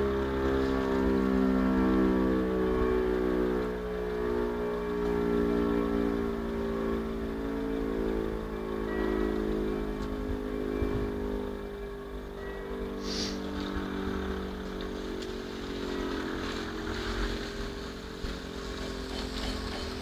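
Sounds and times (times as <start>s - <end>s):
warning siren steady tone: 0.0s - 20.0s.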